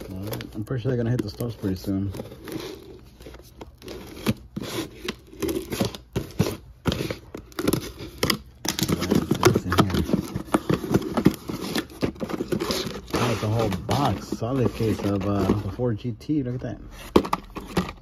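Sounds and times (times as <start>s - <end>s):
cardboard ripping: 0.0s - 15.8s.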